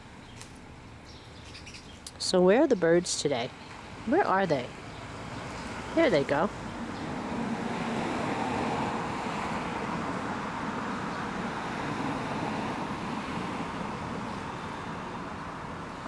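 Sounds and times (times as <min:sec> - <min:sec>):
passing cars hum: 0:00.0 - 0:16.0.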